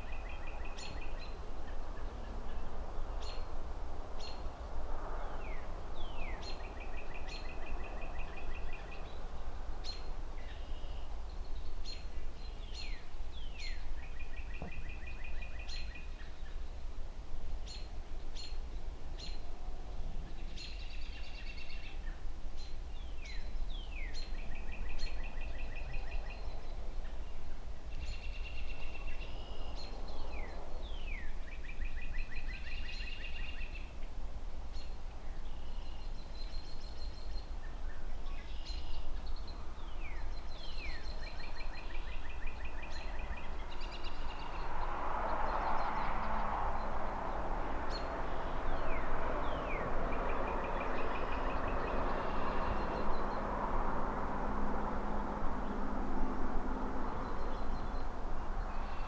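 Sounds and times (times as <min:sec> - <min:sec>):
distant city traffic rumble: 0:00.0 - 0:59.0
songbirds chirping: 0:00.0 - 0:59.0.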